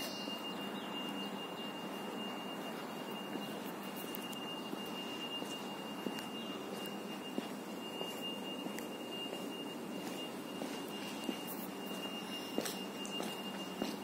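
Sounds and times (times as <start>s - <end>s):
steady high-pitched tone: 0.0s - 14.0s.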